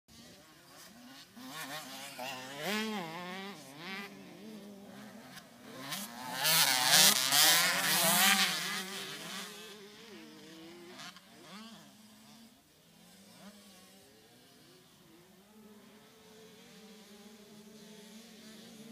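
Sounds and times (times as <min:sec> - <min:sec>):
two-stroke motocross bike revving: 0:00.1 - 0:18.9.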